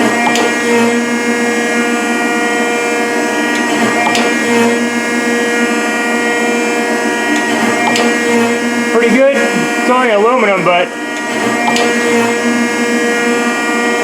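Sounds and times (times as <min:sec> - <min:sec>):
planer machine whine: 0:00.0 - 0:14.0.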